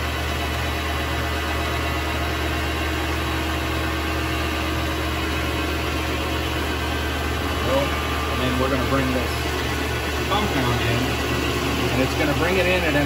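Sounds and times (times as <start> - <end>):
lathe motor humming: 0.0 - 13.0.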